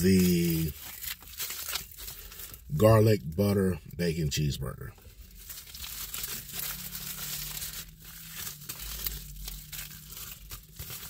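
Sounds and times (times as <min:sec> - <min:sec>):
paper wrapper crinkling: 0:00.0 - 0:03.6, 0:04.4 - 0:11.0.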